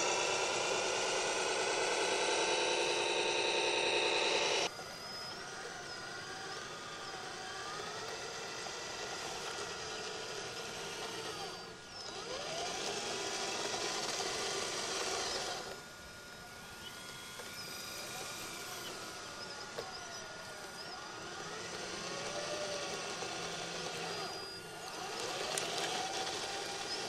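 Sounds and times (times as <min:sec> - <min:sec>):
model loader drive whine: 0:00.0 - 0:27.0.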